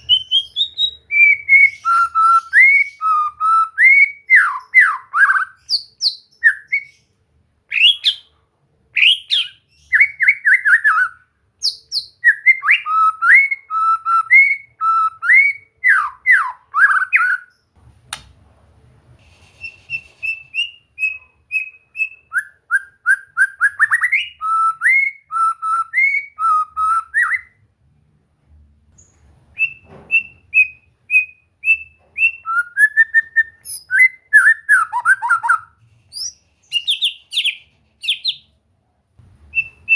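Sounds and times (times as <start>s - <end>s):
bird singing whistled notes: 0.0s - 7.1s, 9.0s - 17.6s, 19.6s - 27.6s, 29.0s - 38.5s, 39.5s - 39.9s.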